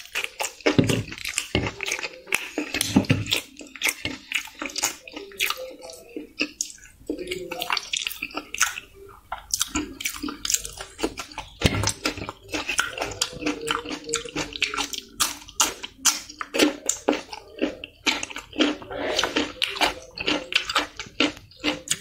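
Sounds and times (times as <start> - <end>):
wet chewing and lip-smacking: 0.0 - 22.0.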